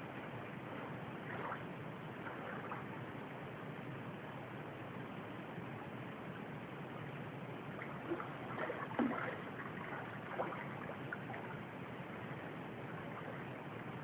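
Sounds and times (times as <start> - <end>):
soft outdoor hiss: 0.0 - 14.0.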